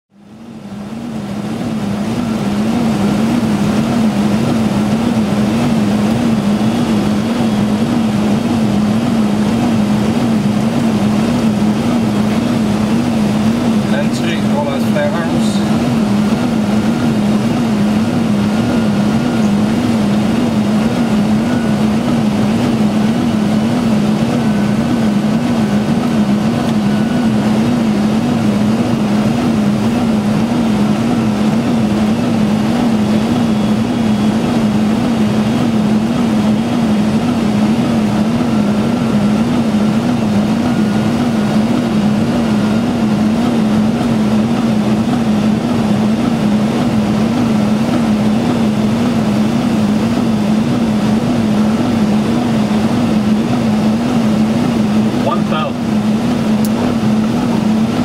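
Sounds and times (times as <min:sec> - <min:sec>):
loud low wavering hum: 0:00.1 - 0:58.0
airflow rush: 0:00.8 - 0:58.0.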